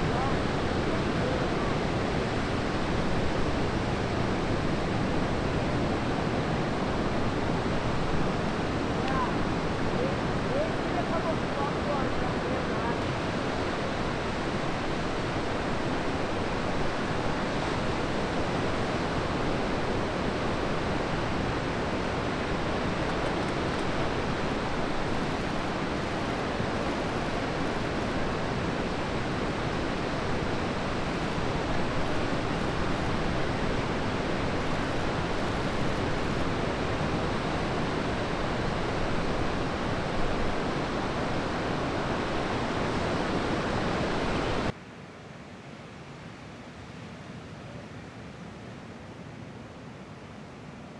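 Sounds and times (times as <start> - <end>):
ocean surf breaking: 0.0 - 44.7.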